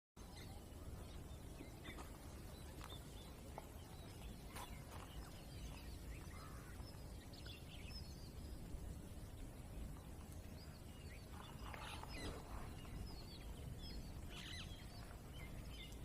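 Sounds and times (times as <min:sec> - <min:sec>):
small birds chirping: 0:00.2 - 0:16.0
steady low rumble: 0:00.2 - 0:16.0.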